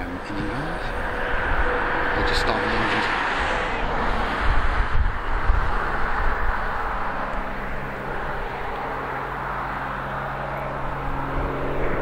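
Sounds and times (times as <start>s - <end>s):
distant turboprop engines running: 0.0s - 12.0s.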